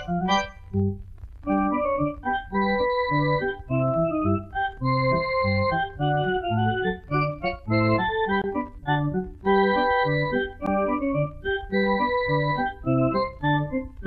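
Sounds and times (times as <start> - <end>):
stepping bass line: 0.0 - 11.5
lively keyboard tune: 0.0 - 14.0.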